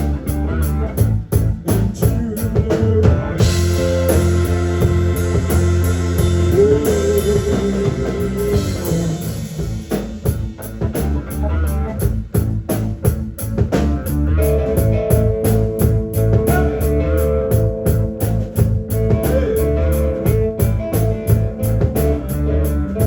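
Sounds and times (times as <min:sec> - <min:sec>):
blues-rock band playing live: 0:00.0 - 0:23.0
drum beats: 0:00.0 - 0:23.0.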